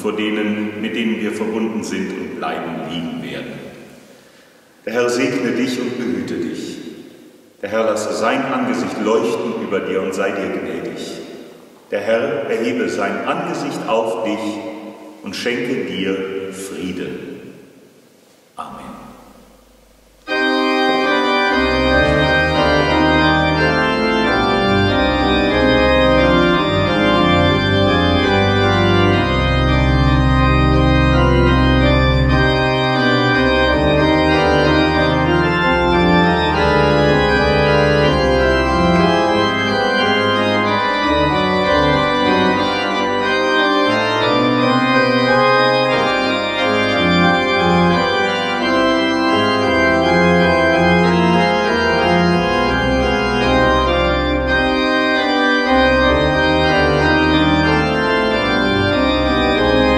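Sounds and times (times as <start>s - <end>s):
church pipe organ chords: 0.0s - 3.8s, 4.9s - 7.0s, 7.6s - 17.2s, 18.7s - 59.9s.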